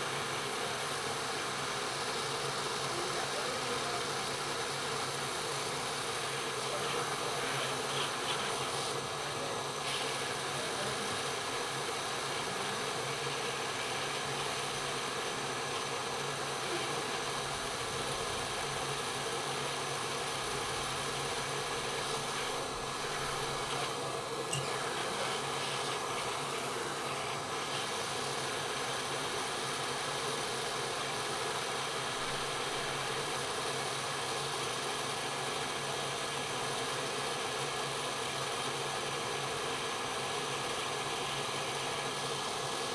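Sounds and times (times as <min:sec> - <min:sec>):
hot-air station blowing: 0:00.0 - 0:42.9.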